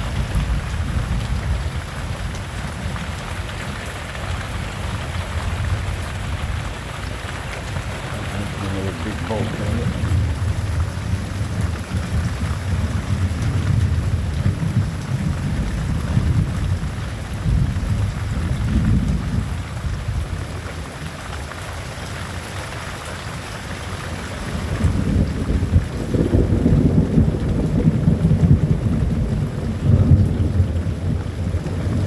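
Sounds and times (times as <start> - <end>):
thunder rumbling: 0.0 - 20.6, 24.5 - 32.0
heavy rain: 0.0 - 32.0.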